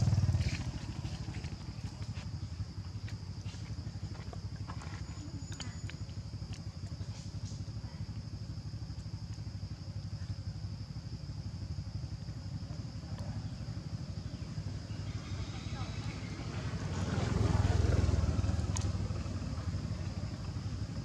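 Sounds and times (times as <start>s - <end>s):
low motor rumble: 0.0s - 21.0s.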